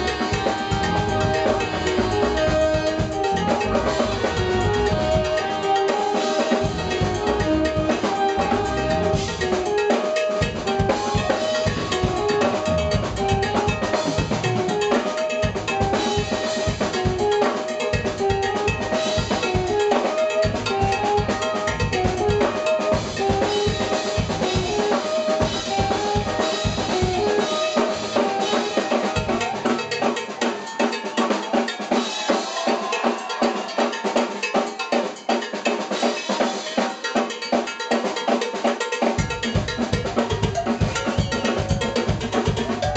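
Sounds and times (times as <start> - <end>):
cowbell: 0.0 - 42.9
drum kit and hand percussion: 0.0 - 42.9
jazz fusion band playing: 0.0 - 42.9.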